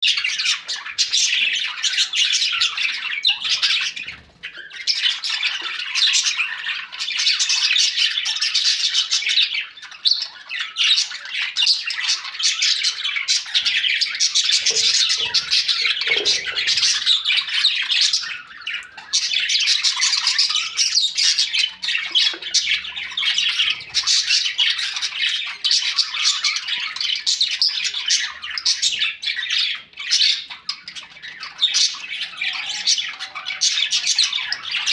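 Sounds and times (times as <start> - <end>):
baby parrots squawking: 0.0 - 34.9.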